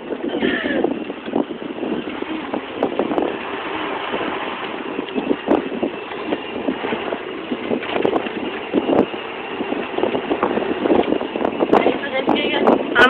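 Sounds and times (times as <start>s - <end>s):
golf cart driving: 0.0s - 13.0s
wind buffeting microphone: 0.0s - 13.0s.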